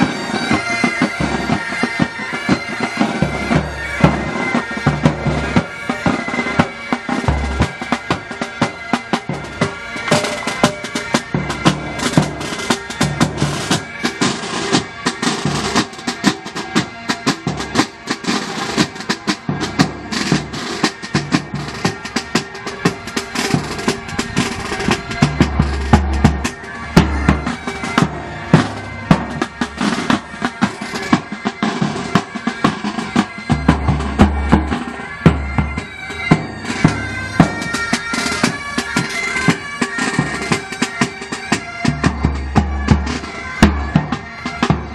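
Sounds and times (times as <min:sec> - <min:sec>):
bagpipes playing melody: 0:00.0 - 0:44.9
snare and bass drums beating: 0:02.5 - 0:44.9.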